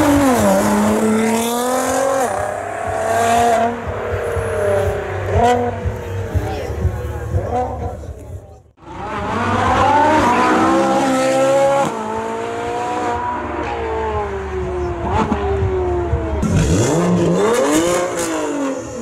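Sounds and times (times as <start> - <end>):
car engine accelerating hard: 0.0 - 6.4, 8.8 - 19.0
engine revving: 0.0 - 6.8, 8.8 - 19.0.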